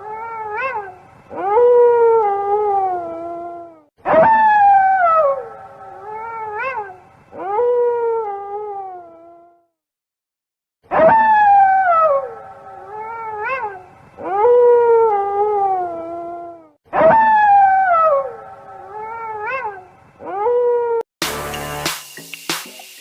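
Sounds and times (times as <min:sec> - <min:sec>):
animal howling: 0:00.0 - 0:09.6, 0:10.9 - 0:21.0.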